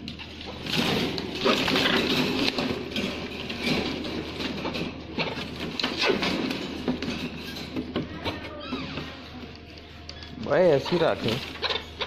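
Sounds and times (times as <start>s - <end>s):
parrots scrabbling in wire cage: 0.0s - 12.0s.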